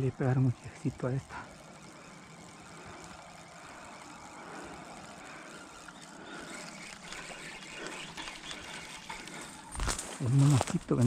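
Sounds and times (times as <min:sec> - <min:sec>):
faint ticks: 0:00.0 - 0:11.0
outdoor background noise: 0:00.0 - 0:11.0.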